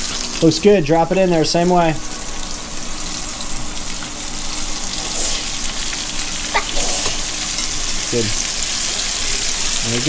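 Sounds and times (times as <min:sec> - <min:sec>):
fish frying in oil: 0:00.0 - 0:10.0.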